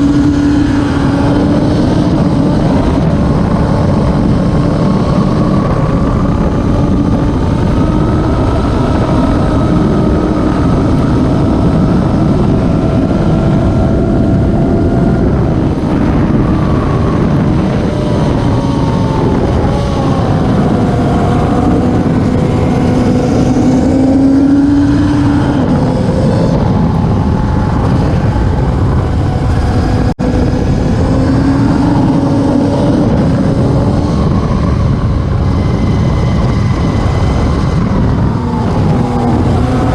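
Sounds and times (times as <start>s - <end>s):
racing motorcycles engines: 0.0s - 39.9s.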